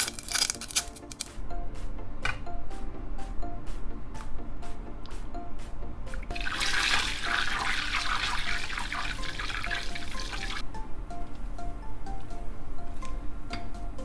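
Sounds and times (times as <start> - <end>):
gentle music melody: 0.0 - 14.0.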